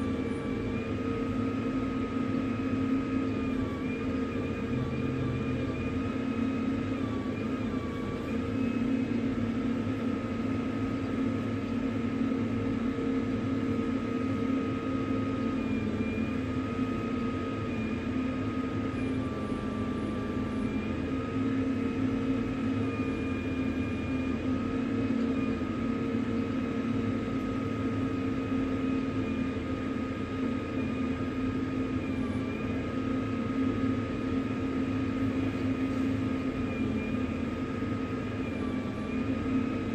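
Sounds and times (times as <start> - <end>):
mechanical hum with wavering tones: 0.0 - 39.9.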